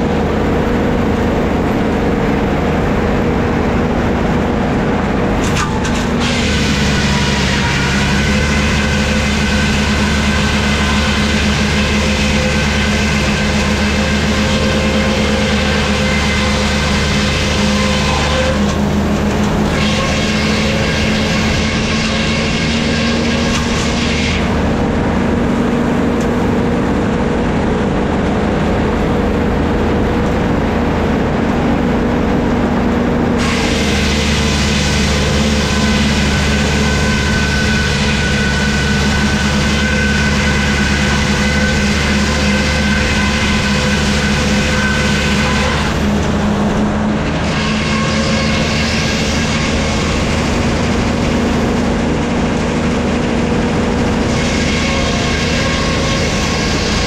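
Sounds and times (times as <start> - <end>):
saw cutting through log: 0.0 - 27.1, 33.4 - 57.0
sawmill engine running: 0.0 - 57.0.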